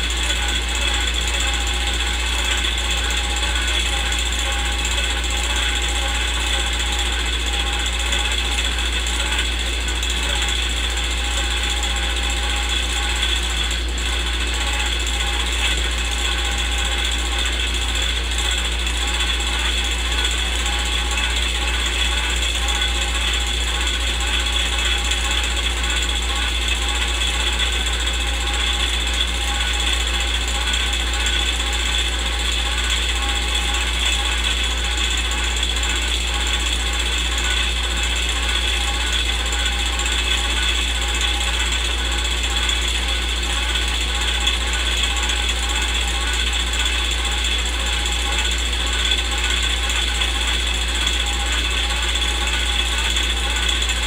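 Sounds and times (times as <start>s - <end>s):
film projector clatter: 0.0s - 54.0s.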